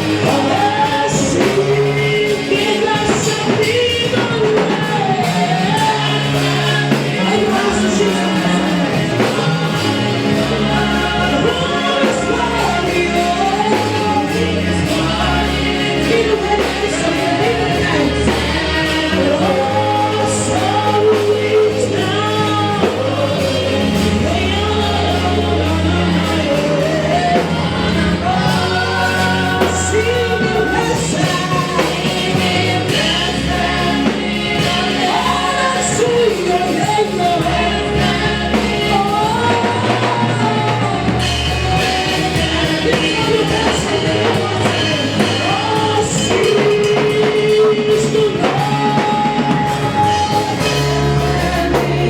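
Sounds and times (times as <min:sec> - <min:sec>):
gospel singing with band: 0:00.0 - 0:52.0
steady bass line: 0:00.0 - 0:52.0.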